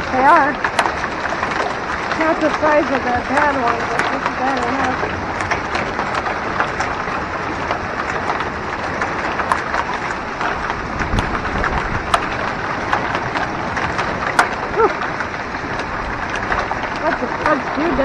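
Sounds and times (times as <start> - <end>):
hailstones ticking: 0.0 - 18.0.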